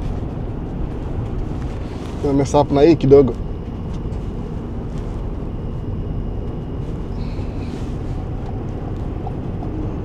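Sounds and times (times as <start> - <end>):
road and engine rumble in van: 0.0 - 10.0.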